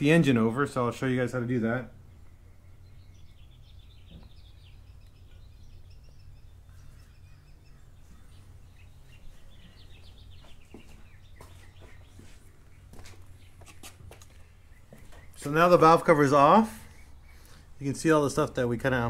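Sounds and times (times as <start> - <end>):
small birds chirping: 0.0 - 19.0
steady low hum: 0.0 - 19.0.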